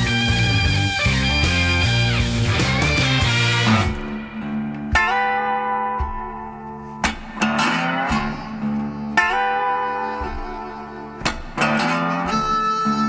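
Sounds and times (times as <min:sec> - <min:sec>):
guitar music: 0:00.0 - 0:13.0.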